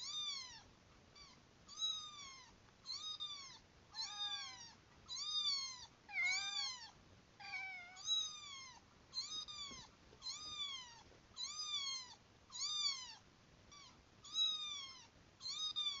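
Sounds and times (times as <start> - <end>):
kitten meowing: 1.2 - 16.0.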